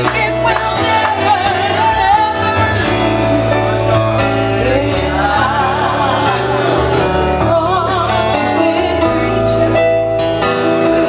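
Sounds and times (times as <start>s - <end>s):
gospel duet singing: 0.0s - 11.0s
held chords and bass: 0.0s - 11.0s.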